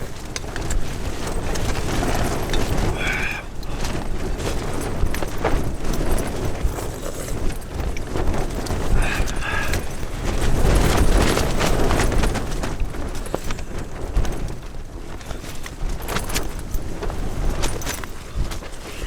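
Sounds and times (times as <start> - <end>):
fabric flapping and snapping: 0.0 - 19.0
wind rumble on microphone: 0.0 - 19.0.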